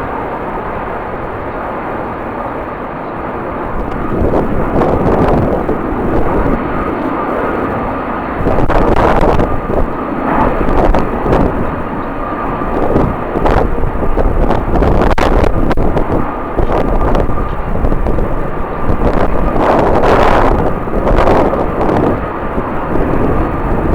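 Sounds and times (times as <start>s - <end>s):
jet engine whine: 0.0s - 23.9s
wind buffeting microphone: 0.0s - 23.9s.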